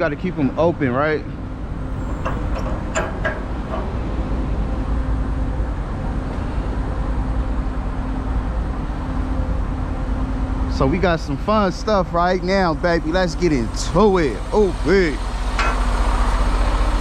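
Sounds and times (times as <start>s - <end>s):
diesel truck engine idling: 1.4s - 17.0s.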